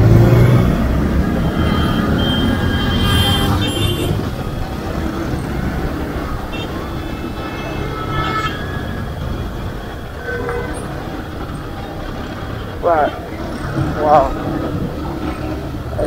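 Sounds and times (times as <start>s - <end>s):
faint traffic sounds: 0.0s - 16.0s
motorcycle engine rumble: 0.0s - 16.0s
road noise: 0.0s - 16.0s.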